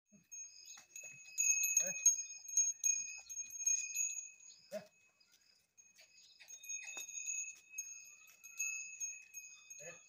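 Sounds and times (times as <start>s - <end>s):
collar bells jingling: 0.1s - 10.0s.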